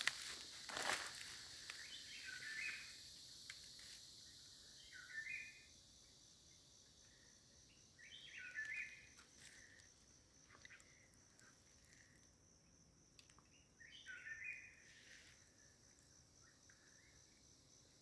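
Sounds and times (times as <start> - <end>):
insects hissing: 0.0 - 12.9, 13.5 - 18.0.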